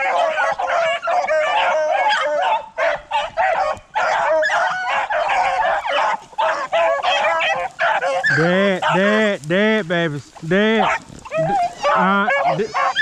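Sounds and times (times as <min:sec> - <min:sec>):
pack of dogs baying: 0:00.0 - 0:13.0.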